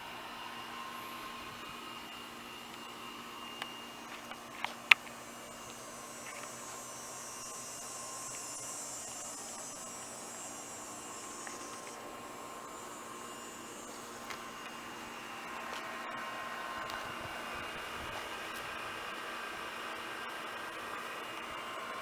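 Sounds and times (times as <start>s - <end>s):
steady hum and hiss: 0.0s - 22.0s.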